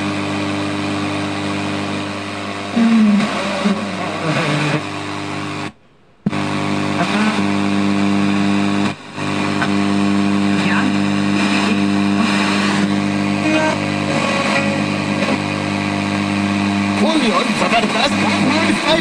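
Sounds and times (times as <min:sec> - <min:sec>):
radio static hum and hiss: 0:00.0 - 0:19.0
snatches of radio broadcast: 0:00.0 - 0:19.0.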